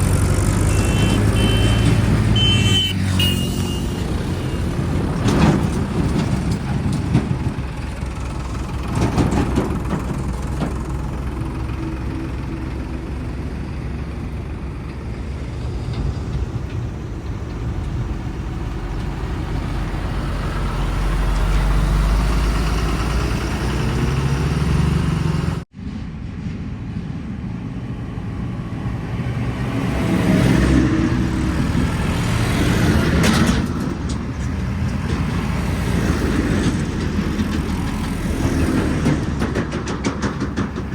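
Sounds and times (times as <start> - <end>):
diesel engine running: 0.0 - 25.7, 27.9 - 40.9.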